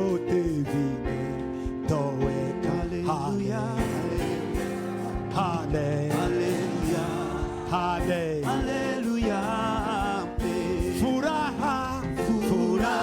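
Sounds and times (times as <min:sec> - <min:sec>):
instrumental backing with light beat: 0:00.0 - 0:13.0
person singing gospel chorus: 0:00.0 - 0:13.0.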